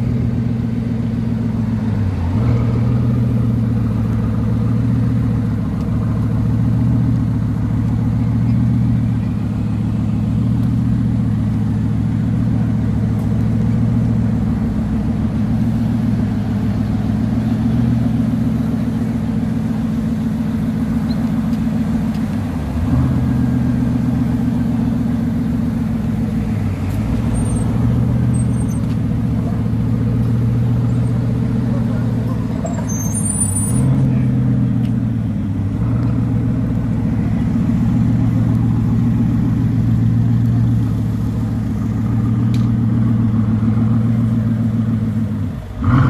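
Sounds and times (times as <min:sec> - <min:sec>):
car engine running at low speed: 0:00.0 - 0:46.0.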